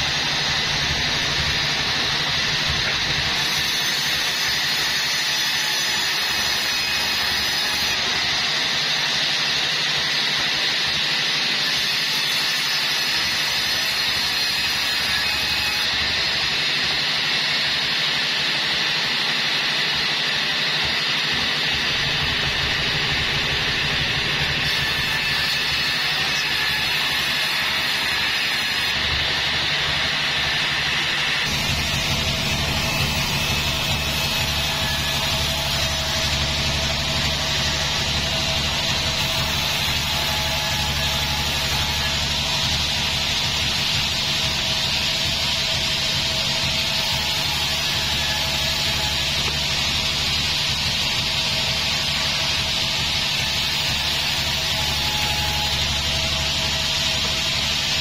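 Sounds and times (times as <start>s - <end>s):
bandsaw sawing through log: 0.0s - 58.0s.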